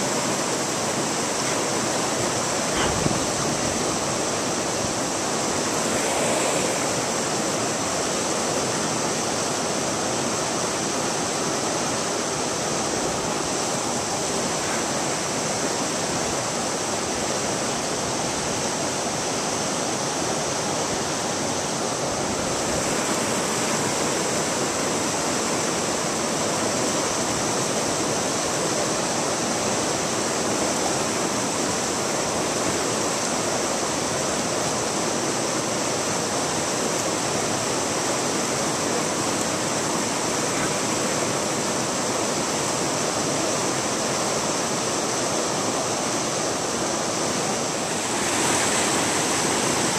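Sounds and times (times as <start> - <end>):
brook water running over rocks: 0.0 - 49.9.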